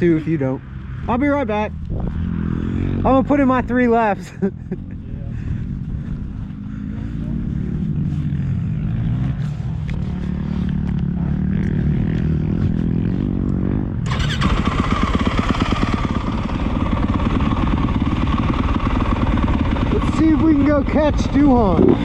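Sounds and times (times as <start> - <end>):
motocross bike engine: 0.0 - 22.0.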